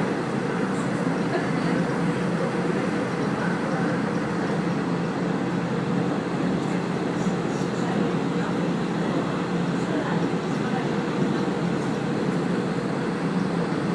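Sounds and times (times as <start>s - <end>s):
train running rumble: 0.0s - 13.9s.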